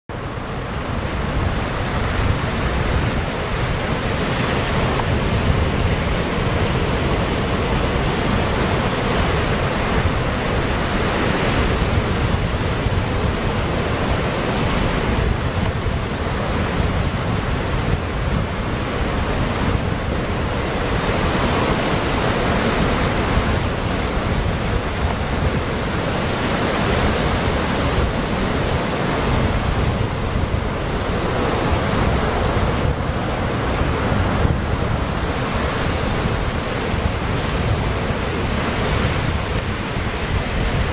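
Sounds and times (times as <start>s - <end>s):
ocean surf breaking on rocks: 0.1s - 40.9s
wind rumbling on microphone: 0.1s - 40.9s.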